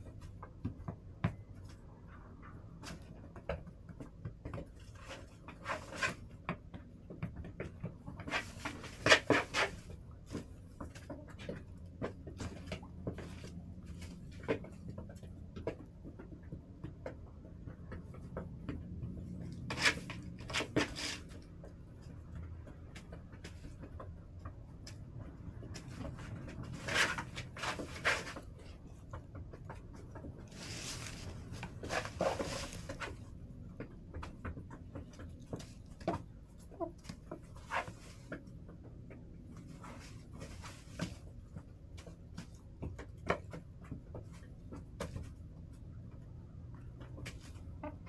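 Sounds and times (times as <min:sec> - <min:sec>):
chickens pecking and scratching: 0:00.0 - 0:48.0.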